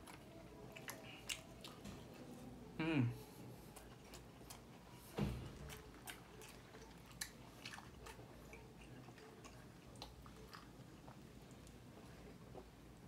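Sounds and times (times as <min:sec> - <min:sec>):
chewing with wet smacks: 0:00.0 - 0:02.2, 0:03.5 - 0:13.0.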